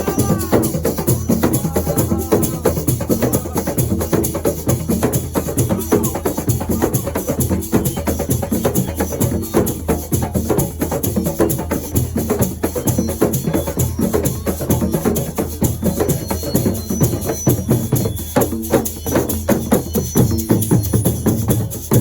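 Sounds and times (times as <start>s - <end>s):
percussion drums: 0.0s - 22.0s
shakers: 0.0s - 22.0s.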